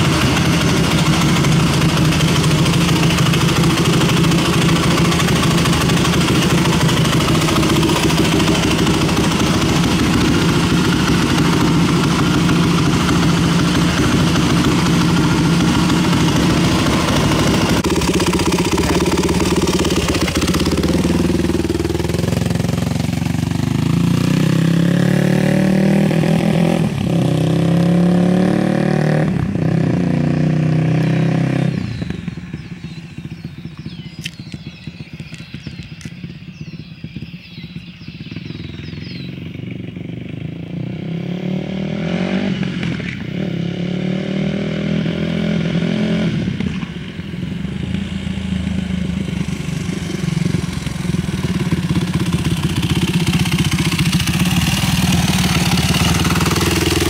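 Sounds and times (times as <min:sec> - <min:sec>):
dirt bike engine revving: 0:00.0 - 0:34.2, 0:34.8 - 0:46.8, 0:47.5 - 0:57.0.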